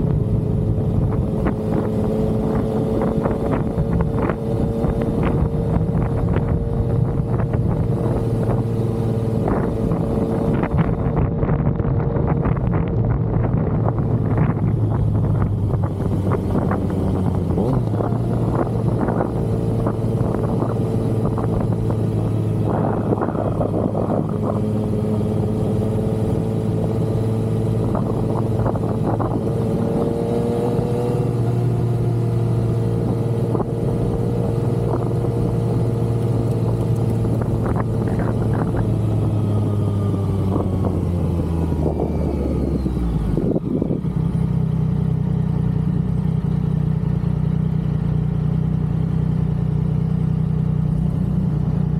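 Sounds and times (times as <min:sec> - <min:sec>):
wind on microphone: 0:00.0 - 0:44.2
motorcycle engine running: 0:00.0 - 0:51.9.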